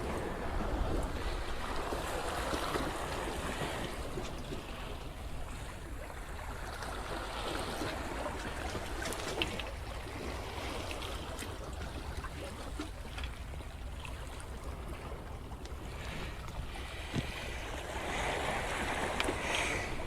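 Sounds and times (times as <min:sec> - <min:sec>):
sea water lapping against rocks: 0:00.0 - 0:20.0.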